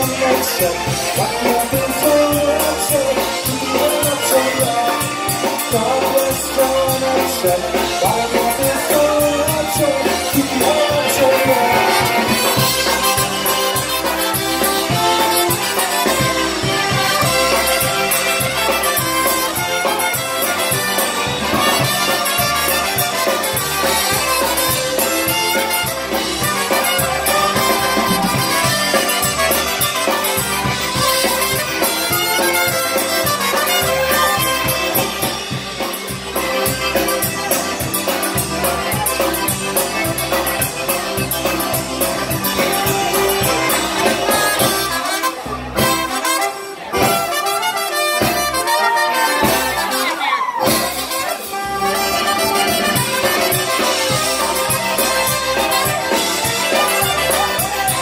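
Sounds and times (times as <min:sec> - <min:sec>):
electric bass: 0:00.0 - 0:47.4, 0:49.3 - 0:58.0
concertina and accordion melody: 0:00.0 - 0:58.0
drum kit polka rhythm: 0:00.0 - 0:58.0
saxophone and trumpet: 0:00.0 - 0:58.0.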